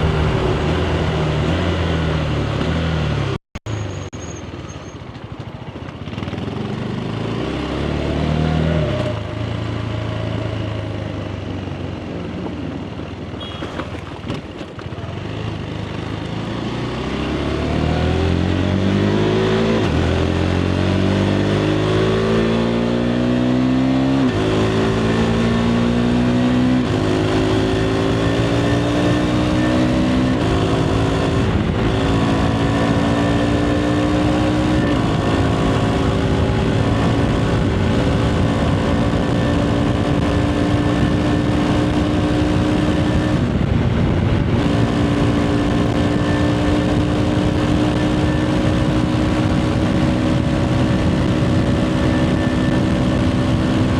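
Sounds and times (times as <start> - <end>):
motorcycle engine accelerating: 0.0 - 4.0, 5.3 - 53.9.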